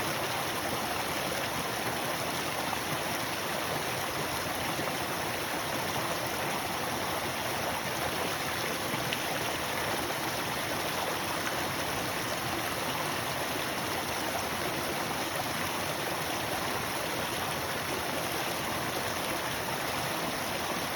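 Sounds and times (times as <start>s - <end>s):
flowing water rushing: 0.0s - 20.9s.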